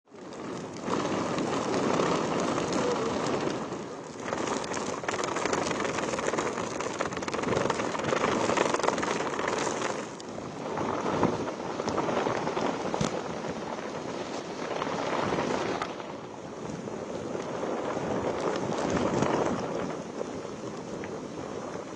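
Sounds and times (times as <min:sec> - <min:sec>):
gusting wind: 0:00.1 - 0:21.9
heavy rain: 0:00.1 - 0:21.9.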